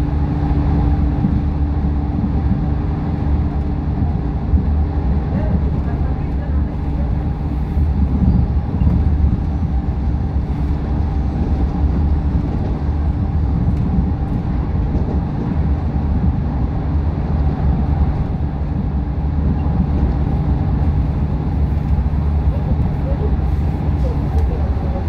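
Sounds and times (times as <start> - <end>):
train tyres rumbling in tunnel: 0.0 - 25.0.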